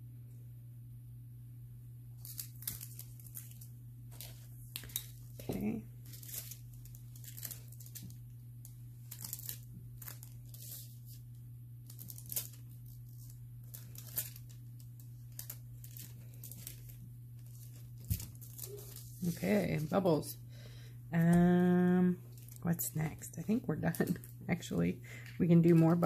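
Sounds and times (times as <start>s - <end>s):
steady low hum: 0.0s - 26.0s
foil crinkling and rustling: 2.2s - 20.3s, 21.2s - 26.0s.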